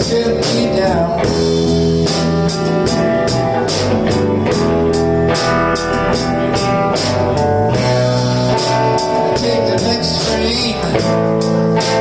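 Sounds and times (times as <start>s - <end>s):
bass: 0.0s - 12.0s
drum kit and cymbals: 0.0s - 12.0s
electric guitar: 0.0s - 12.0s.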